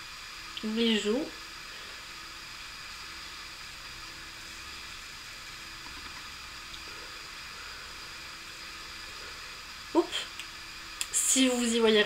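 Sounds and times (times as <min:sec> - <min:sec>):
room tone hiss: 0:00.0 - 0:12.0.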